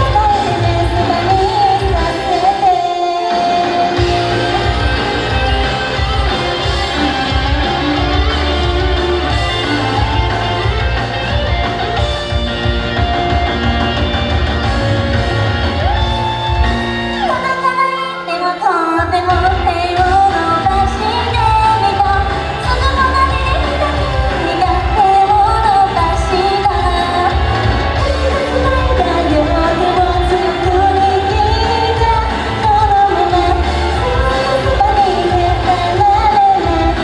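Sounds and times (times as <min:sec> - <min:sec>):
person singing: 0:00.0 - 0:11.1, 0:15.6 - 0:37.0
pop backing track with bass beat: 0:00.0 - 0:37.0.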